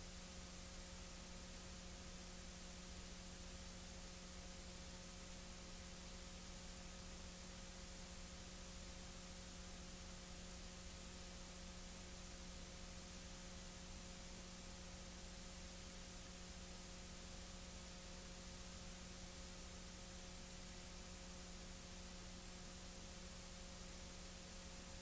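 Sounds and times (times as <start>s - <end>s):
faint tape hiss: 0.0s - 25.0s
low electrical hum: 0.0s - 25.0s.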